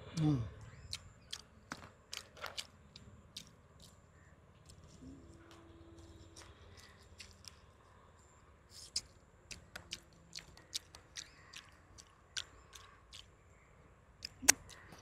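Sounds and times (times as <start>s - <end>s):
crunchy chewing: 0.7s - 15.0s.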